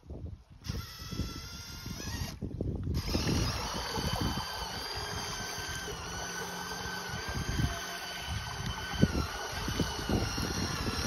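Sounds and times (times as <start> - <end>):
high-pitched electric motor whine: 0.6 - 11.0.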